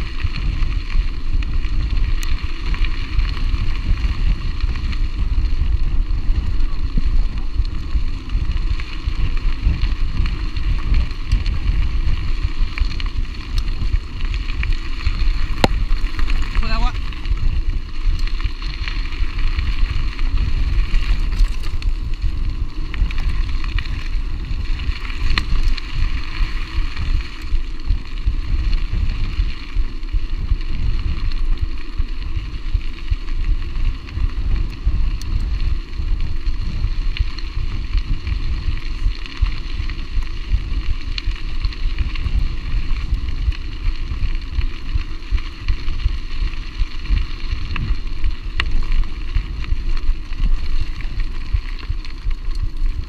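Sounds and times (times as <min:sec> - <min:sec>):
mountain bike rolling and rattling: 0:00.0 - 0:53.0
wind rumbling on microphone: 0:00.0 - 0:53.0.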